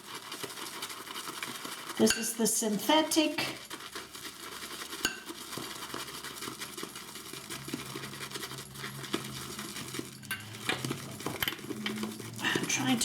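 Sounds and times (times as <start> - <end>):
shaving brush whisking lather: 0.0 - 13.0.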